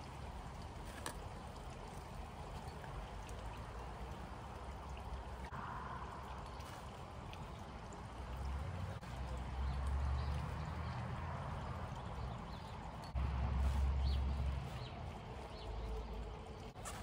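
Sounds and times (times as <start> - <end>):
trickle of running water: 0.0 - 17.0.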